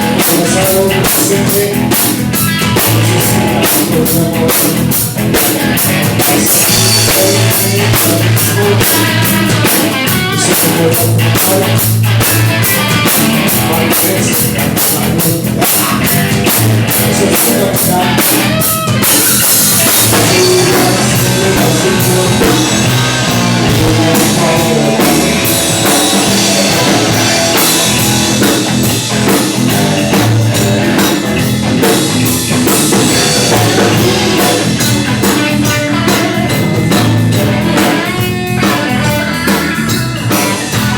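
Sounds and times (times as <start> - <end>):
bass guitar: 0.0 - 40.9
drum kit beat: 0.0 - 40.9
electric guitar: 0.0 - 40.9.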